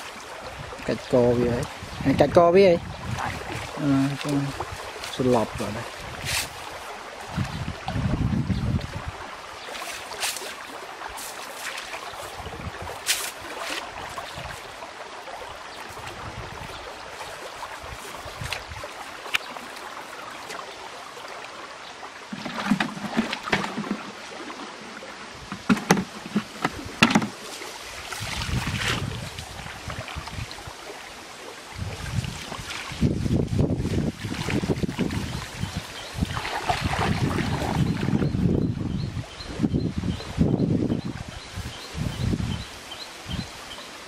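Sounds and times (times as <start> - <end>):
running water hiss: 0.0 - 7.7, 9.2 - 37.9, 41.4 - 44.0
water sloshing and splashing: 0.0 - 38.6.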